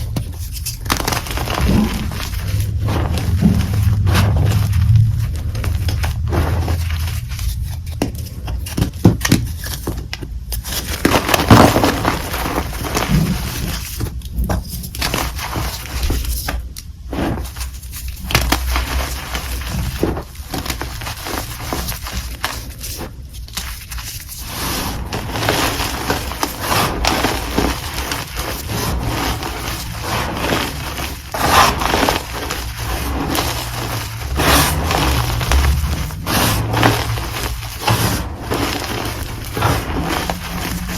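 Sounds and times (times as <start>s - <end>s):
chalk crushed by hand: 0.0s - 40.9s.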